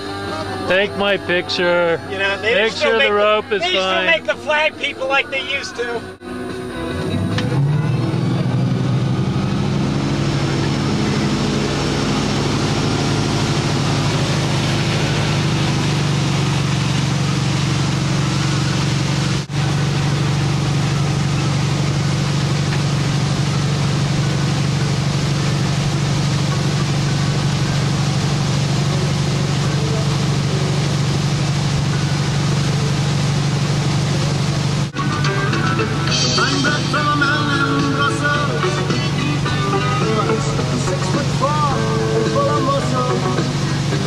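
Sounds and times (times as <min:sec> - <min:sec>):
boat engine throttling up: 0:00.0 - 0:44.0
rushing water: 0:07.0 - 0:44.0.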